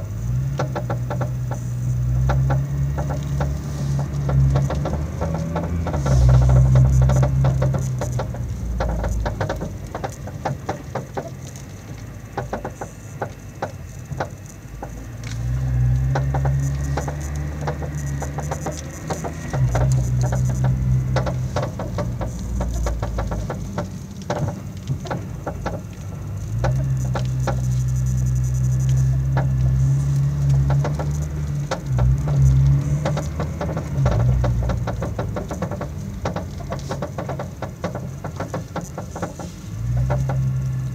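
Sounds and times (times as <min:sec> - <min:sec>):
low engine drone: 0:00.0 - 0:40.9
suspension clicking and knocking: 0:00.0 - 0:40.9.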